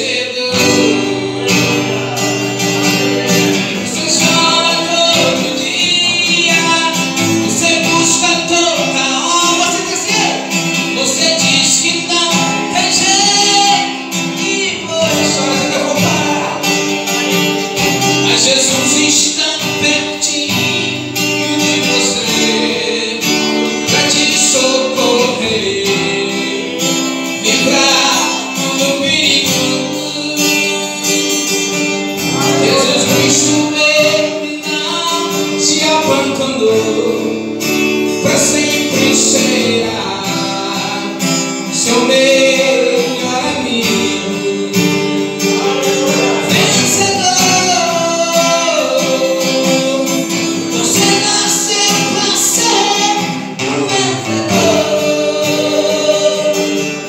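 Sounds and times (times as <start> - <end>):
guitar playing: 0.0 - 57.0
man singing into microphone: 0.0 - 57.0.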